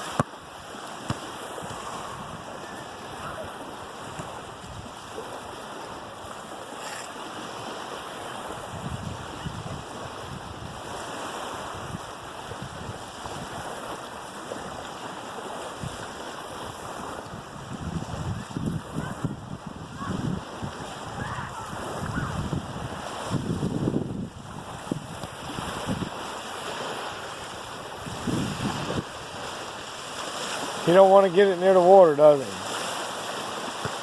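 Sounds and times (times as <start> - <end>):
wind gusting on microphone: 0.0 - 31.2
waves breaking on shore: 0.0 - 34.0.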